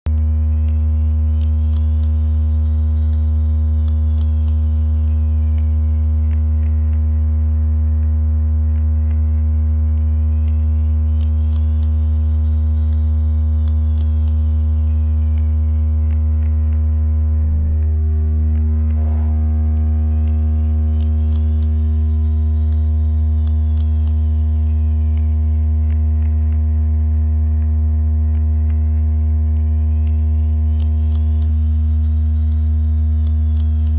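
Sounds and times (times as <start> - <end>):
low-pitched electronic hum: 0.0 - 33.9.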